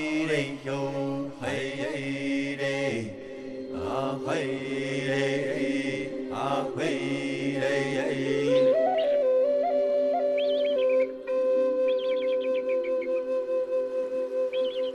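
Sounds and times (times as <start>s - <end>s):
voice chanting long notes: 0.0s - 14.9s.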